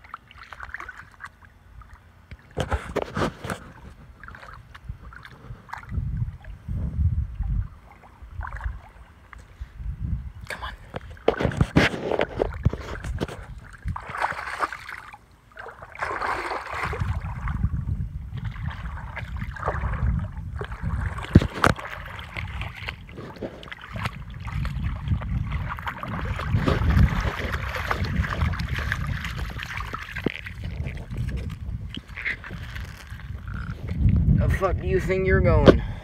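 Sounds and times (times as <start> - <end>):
water sloshing and splashing: 0.0 - 9.6, 10.6 - 34.6.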